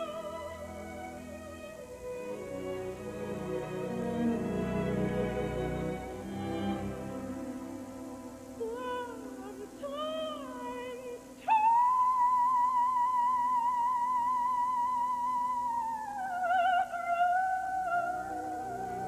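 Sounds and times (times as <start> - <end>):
operatic soprano singing: 0.0 - 19.0.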